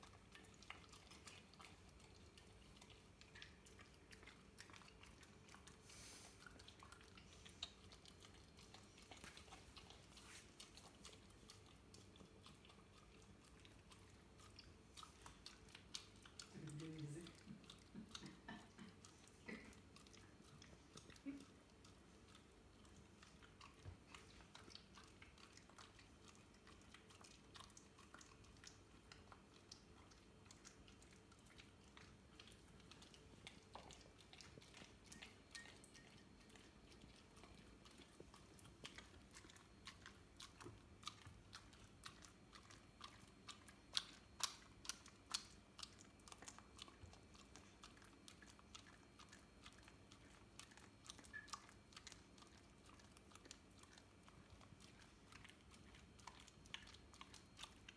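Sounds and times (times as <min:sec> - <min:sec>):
dog licking and chewing: 0:00.0 - 0:57.9.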